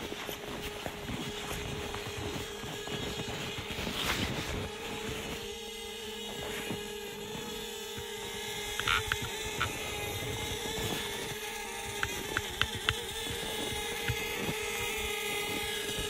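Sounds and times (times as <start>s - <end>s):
drone propellers buzzing whine: 0.0s - 16.0s.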